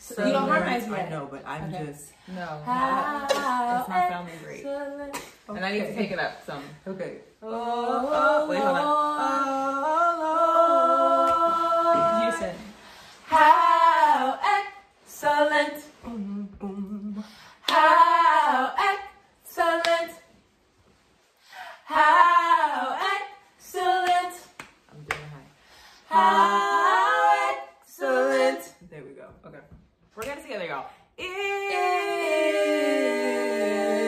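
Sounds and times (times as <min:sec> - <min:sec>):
women singing in harmony: 0:00.0 - 0:05.5, 0:06.1 - 0:20.4, 0:21.6 - 0:28.9, 0:31.2 - 0:34.0.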